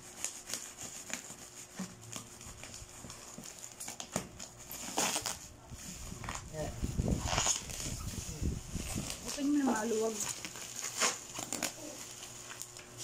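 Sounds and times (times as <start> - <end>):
bubble wrap crinkling and rustling: 0.0 - 13.0.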